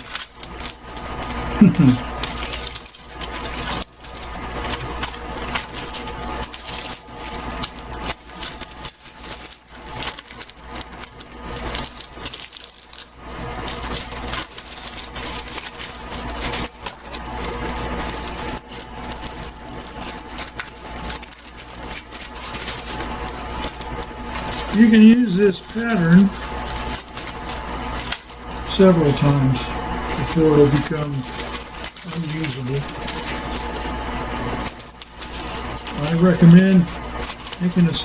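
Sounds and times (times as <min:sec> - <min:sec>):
paper crinkling and rustling: 0:00.0 - 0:38.0
steady low hum: 0:00.0 - 0:38.0.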